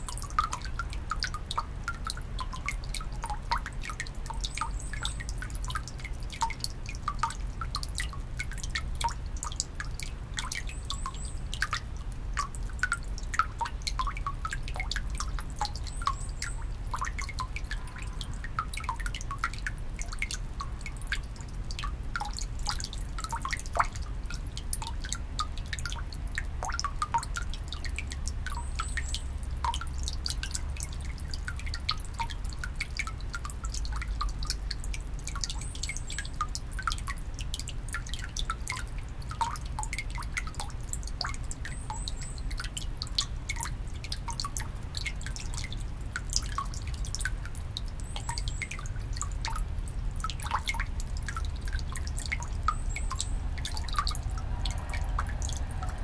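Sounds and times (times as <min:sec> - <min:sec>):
water dripping into basin: 0:00.0 - 0:56.0.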